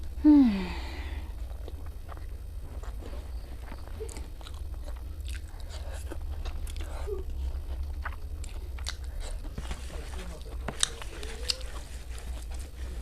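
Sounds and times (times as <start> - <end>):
low hum: 0.0 - 13.0
person chewing and crunching food: 0.0 - 13.0.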